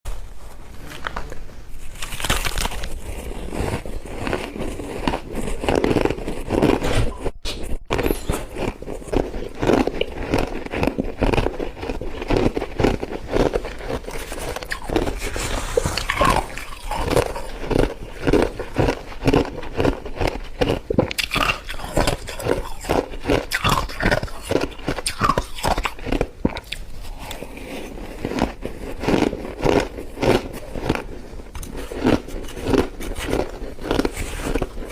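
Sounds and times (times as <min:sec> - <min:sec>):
person chewing crunchy frost: 0:01.0 - 0:34.9.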